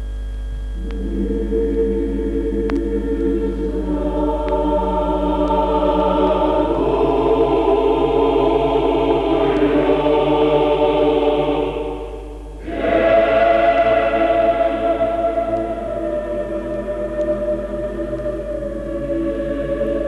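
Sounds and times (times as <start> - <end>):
steady low hum: 0.0 - 20.0
sustained soundtrack chords: 0.8 - 20.0.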